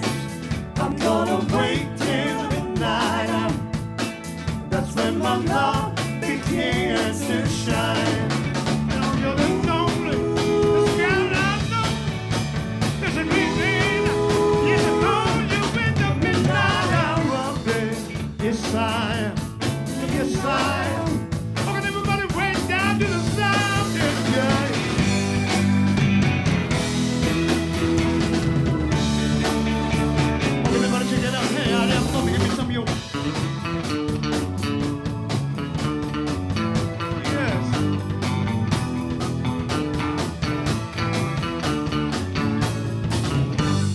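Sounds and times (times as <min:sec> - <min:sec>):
rhythm and blues band playing: 0:00.0 - 0:43.9.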